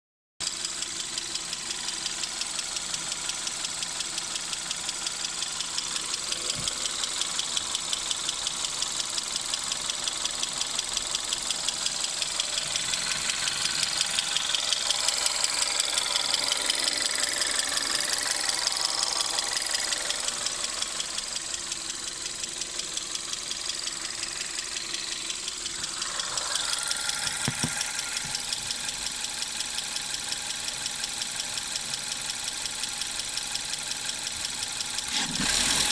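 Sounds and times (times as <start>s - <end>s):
engine knocking: 0.4s - 35.9s.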